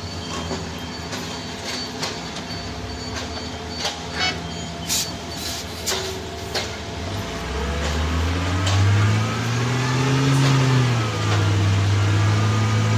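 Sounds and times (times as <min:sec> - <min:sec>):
heavy diesel machinery droning: 0:00.0 - 0:12.9
reversing alarm beeping: 0:00.0 - 0:12.9.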